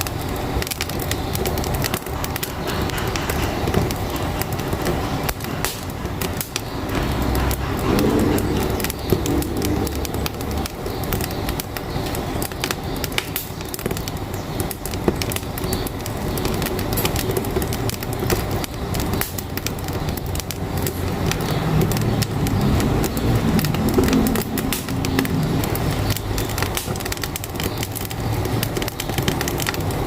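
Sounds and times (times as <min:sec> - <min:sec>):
firewood crackling and popping: 0:00.0 - 0:30.0
truck engine rumbling: 0:00.0 - 0:30.0.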